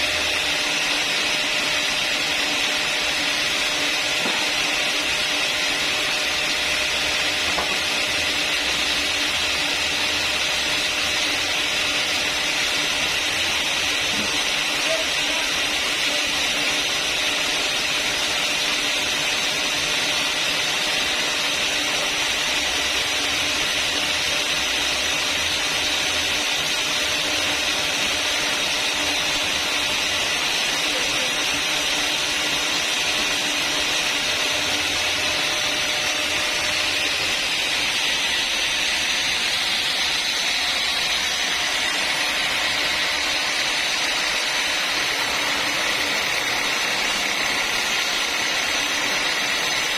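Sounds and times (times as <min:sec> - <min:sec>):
sawmill saw cutting log: 0:00.0 - 0:49.9.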